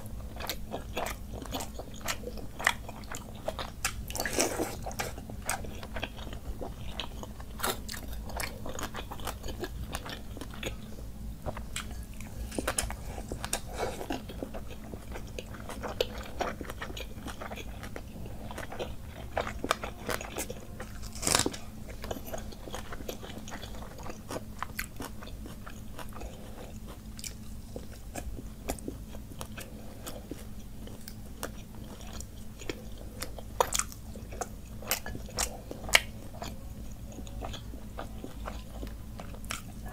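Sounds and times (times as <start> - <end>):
chewing and crunchy bites: 0.0 - 39.9
steady low hum: 0.0 - 39.9.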